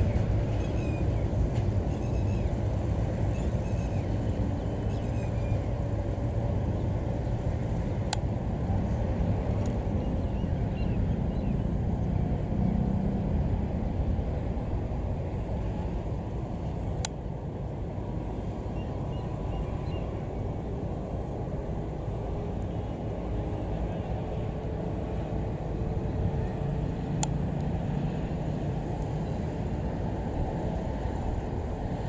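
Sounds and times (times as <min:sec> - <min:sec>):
diesel locomotive rumbling: 0:00.0 - 0:32.0.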